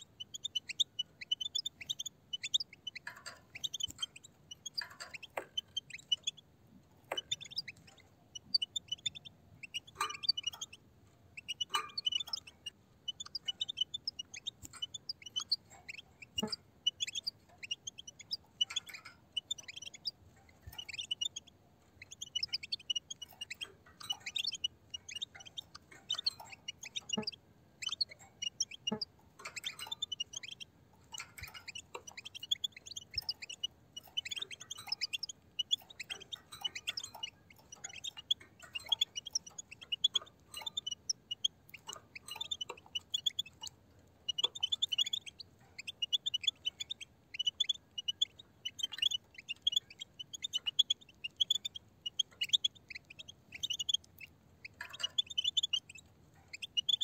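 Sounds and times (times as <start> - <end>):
goldfinches twittering: 0.0 - 6.4, 7.0 - 10.8, 11.4 - 57.0.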